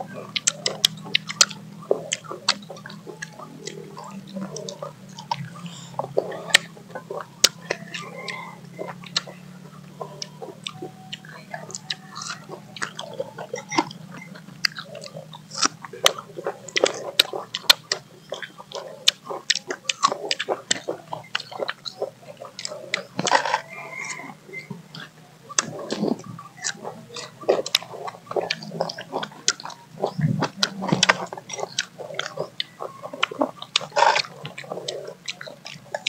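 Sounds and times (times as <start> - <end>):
people chewing with crunches: 0.0 - 36.0.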